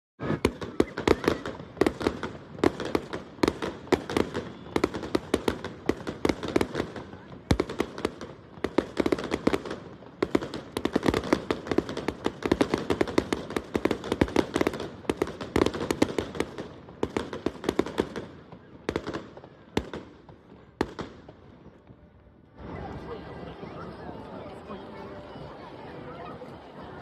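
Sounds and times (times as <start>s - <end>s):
fireworks bangs and crackles: 0.2s - 25.5s.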